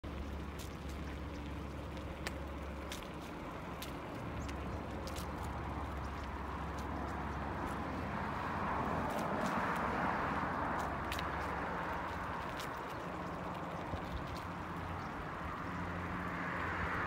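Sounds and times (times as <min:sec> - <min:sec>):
bicycle tyres rolling on asphalt: 0:00.0 - 0:17.0.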